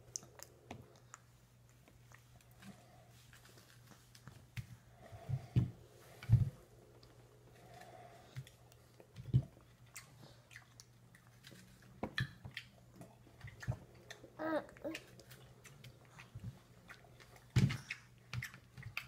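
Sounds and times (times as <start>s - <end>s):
steady low hum: 0.0s - 18.2s
toddler chewing fruit: 0.0s - 19.0s.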